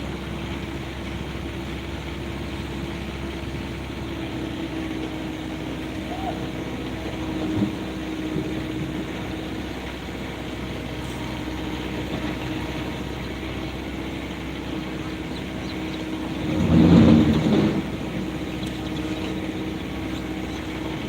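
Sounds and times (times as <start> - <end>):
diesel engine of heavy machinery: 0.0 - 21.0.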